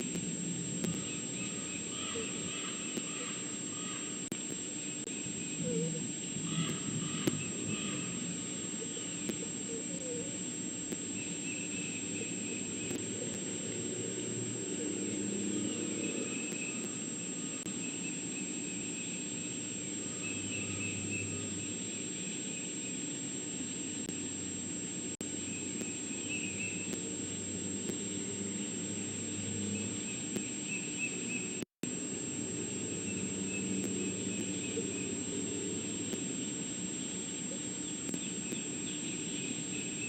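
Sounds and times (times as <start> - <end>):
faint chirping: 0.0 - 40.0
high-pitched whine: 0.0 - 40.0
low rumble and hiss: 0.0 - 40.0.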